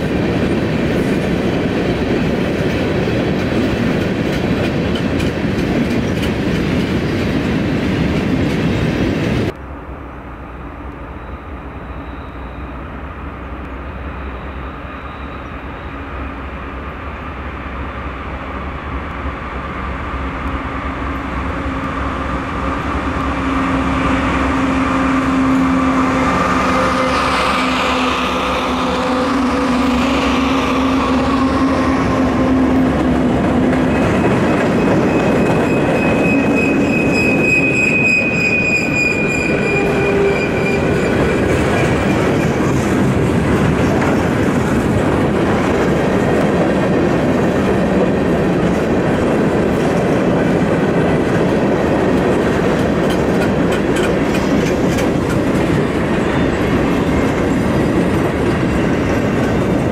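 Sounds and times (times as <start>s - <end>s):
diesel locomotives passing: 0.0s - 59.9s
freight cars rolling on rails: 0.0s - 59.9s.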